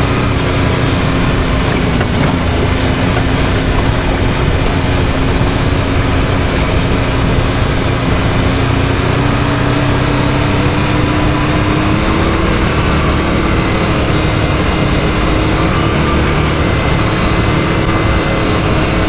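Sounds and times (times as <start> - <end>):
continuous rushing noise: 0.0 - 19.0
off-road vehicle engine accelerating: 0.0 - 19.0.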